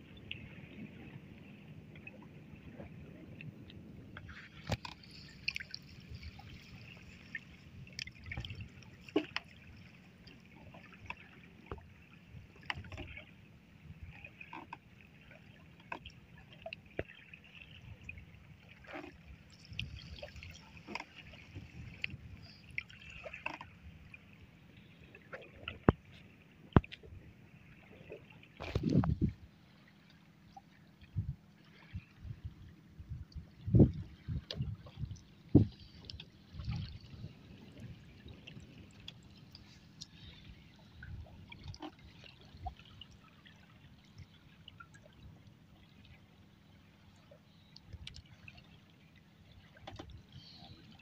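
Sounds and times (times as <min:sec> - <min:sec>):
water lapping against boat: 0:00.0 - 0:51.0.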